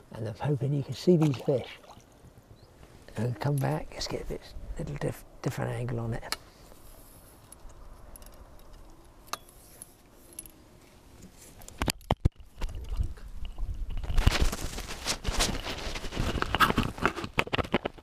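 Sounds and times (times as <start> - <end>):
crackly scraping and rustling: 2.8 - 18.0.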